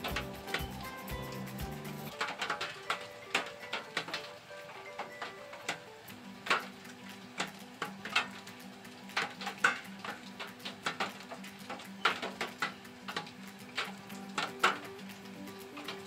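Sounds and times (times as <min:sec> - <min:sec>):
raindrops tapping on hard surface: 0:00.0 - 0:04.3, 0:06.1 - 0:16.0
faint hiss: 0:00.0 - 0:16.0
soft background music: 0:00.0 - 0:16.0.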